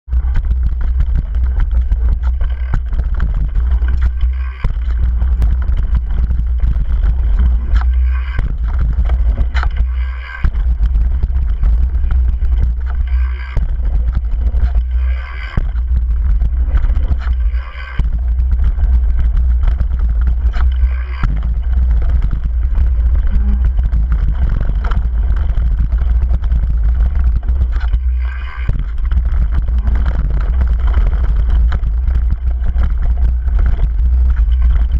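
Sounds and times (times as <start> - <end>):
bike rattling over bumps: 0.0 - 34.9
tyres on loose dirt: 0.1 - 34.9.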